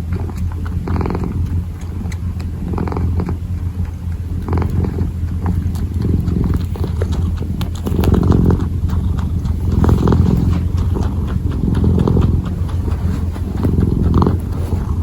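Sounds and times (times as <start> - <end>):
kitten purring: 0.0 - 15.0
paws kneading clicks: 0.0 - 15.0.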